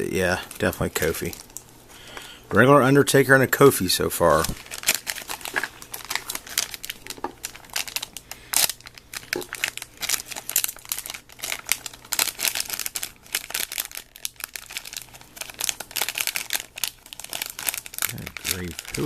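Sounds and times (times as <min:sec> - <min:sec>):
plastic wrapper crinkling and tearing: 0:00.2 - 0:02.4, 0:04.2 - 0:19.0.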